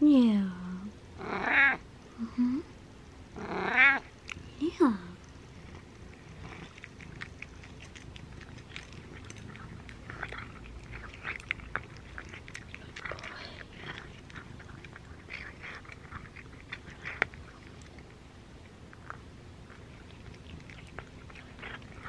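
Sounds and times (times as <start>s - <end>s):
cat chewing food: 3.4s - 4.6s, 5.2s - 22.0s.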